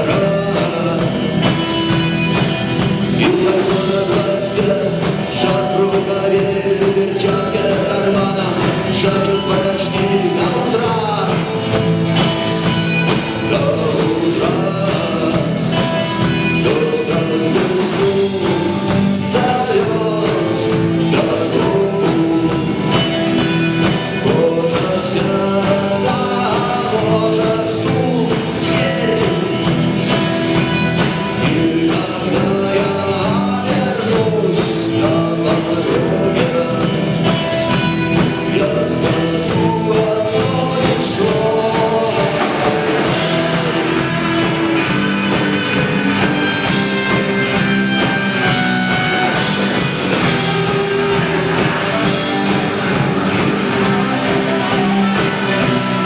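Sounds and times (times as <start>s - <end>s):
person singing: 0.0s - 56.0s
rock band playing live: 0.0s - 56.0s.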